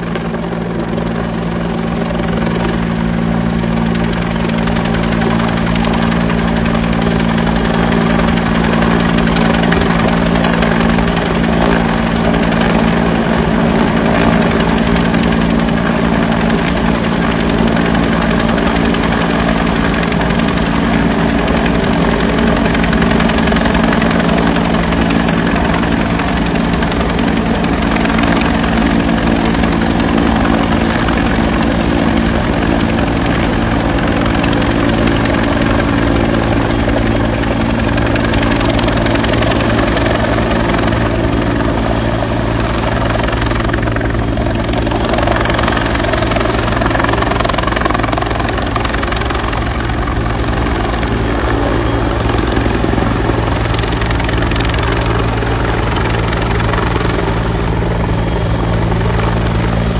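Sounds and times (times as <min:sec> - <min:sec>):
helicopter hovering overhead: 0:00.0 - 0:59.9.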